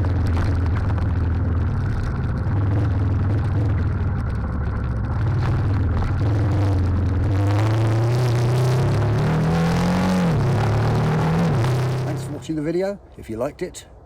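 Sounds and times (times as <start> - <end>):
motorcycle engine accelerating: 0.0 - 12.6.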